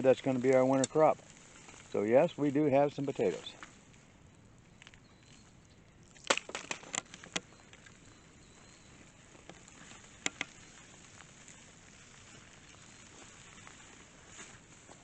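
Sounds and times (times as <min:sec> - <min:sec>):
digging in hard dry soil: 0:00.0 - 0:15.0.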